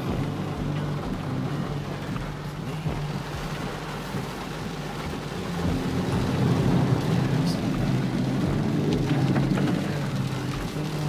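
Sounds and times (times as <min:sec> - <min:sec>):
engine and road hum: 0:00.0 - 0:11.0
heavy rain on car: 0:00.0 - 0:11.0
tyres on flooded road: 0:00.0 - 0:11.0.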